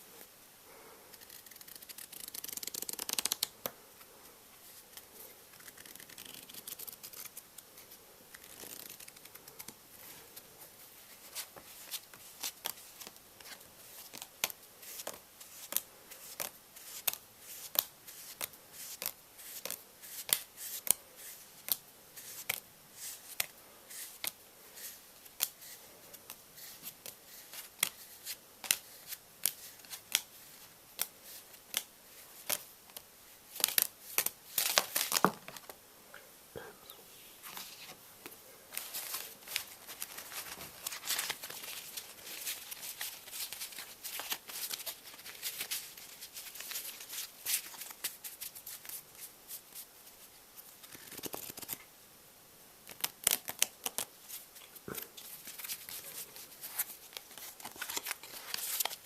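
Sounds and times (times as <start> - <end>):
playing cards rustling: 1.2 - 3.7, 4.6 - 35.8, 37.4 - 51.8, 52.8 - 59.0.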